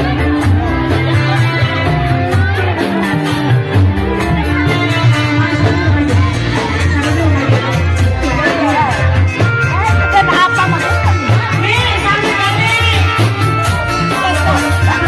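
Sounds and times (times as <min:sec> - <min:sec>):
live troupe music with steady beat: 0:00.0 - 0:15.0.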